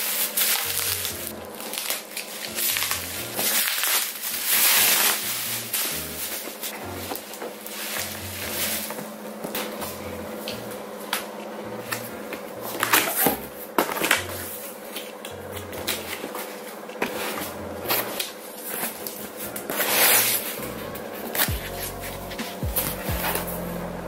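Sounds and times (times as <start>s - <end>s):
soft background music: 0.0s - 24.0s.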